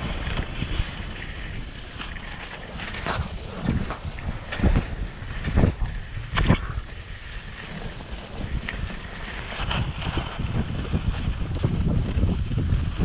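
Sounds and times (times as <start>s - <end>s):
skis scraping snow: 0.0s - 13.0s
wind rushing over microphone: 0.0s - 13.0s.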